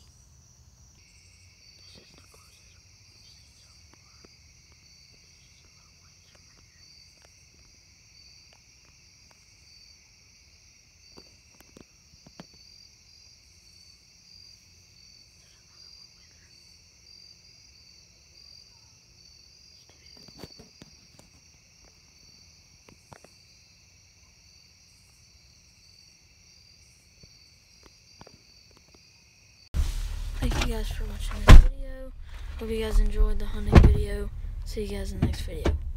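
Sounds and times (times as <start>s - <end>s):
insects chirring: 0.0s - 35.9s
low insect drone: 0.0s - 35.9s.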